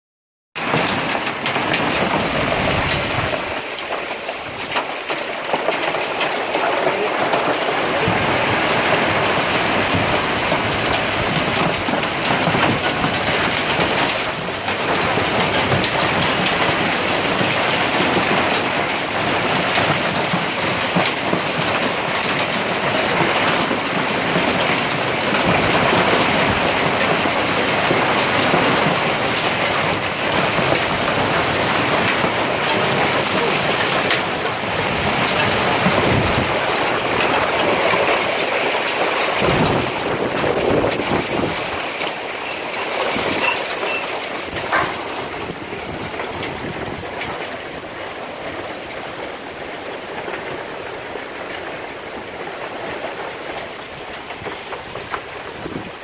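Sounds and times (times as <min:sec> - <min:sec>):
hail and heavy rain clattering: 0:00.6 - 0:56.0.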